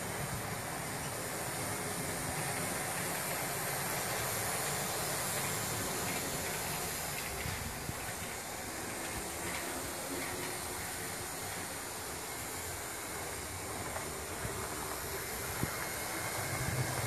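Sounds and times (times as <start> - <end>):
model train motor whirring: 0.0 - 17.0
wheels rolling on rails: 0.0 - 17.0.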